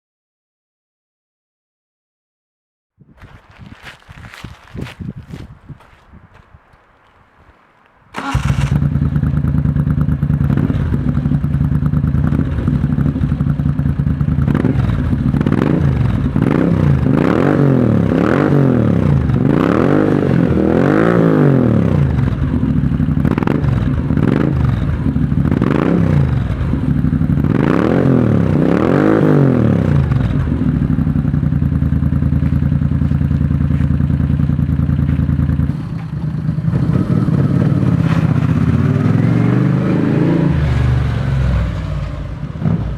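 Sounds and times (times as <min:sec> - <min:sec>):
motorcycle engine idling and revving: 0:08.1 - 0:42.9.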